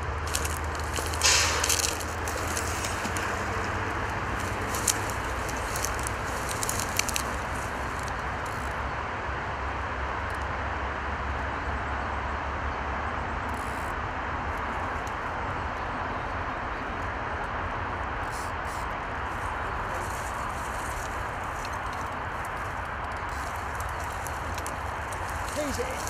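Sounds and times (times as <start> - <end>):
steady background rush: 0.0 - 10.4, 13.5 - 26.0.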